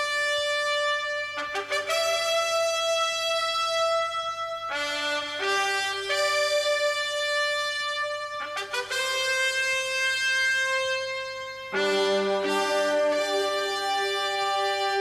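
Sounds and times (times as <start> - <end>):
trumpets playing held notes: 0.0 - 15.0.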